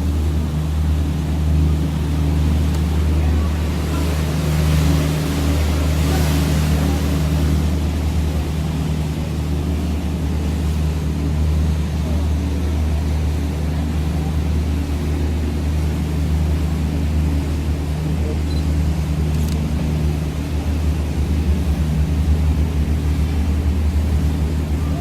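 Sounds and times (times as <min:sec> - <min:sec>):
boat engine drone: 0:00.0 - 0:25.0
wind and water hiss: 0:00.0 - 0:25.0.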